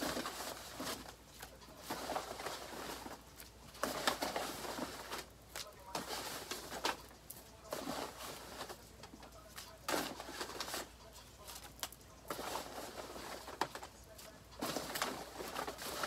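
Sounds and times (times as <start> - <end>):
paper crinkling: 0.0 - 16.0.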